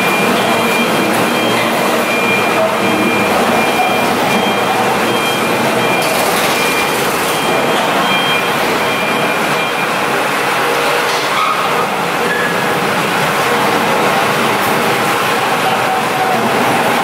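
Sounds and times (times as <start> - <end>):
diesel generator running: 0.0 - 17.0.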